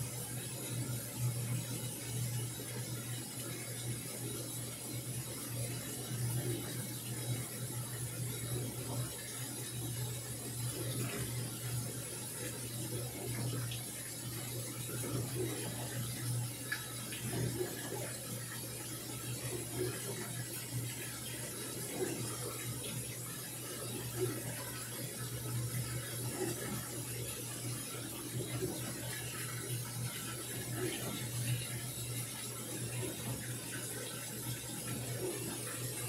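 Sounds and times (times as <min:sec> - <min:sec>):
water pouring into washing machine: 0:00.0 - 0:36.0.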